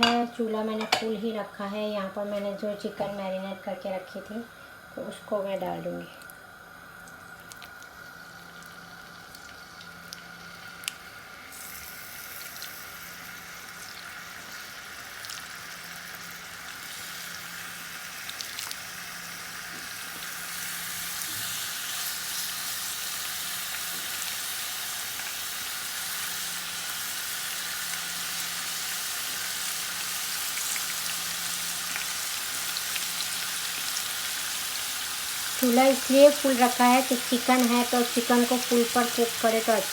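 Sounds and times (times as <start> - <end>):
chicken sizzling in a frying pan: 5.0 - 39.9.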